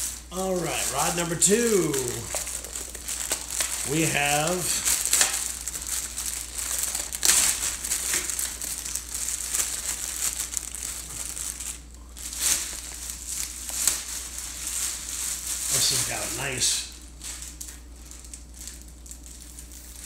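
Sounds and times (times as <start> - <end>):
plastic sleeve crinkling: 0.0 - 20.0.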